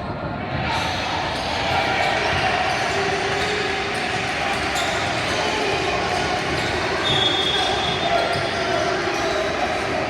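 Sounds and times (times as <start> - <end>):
spectators chattering: 0.0 - 10.0.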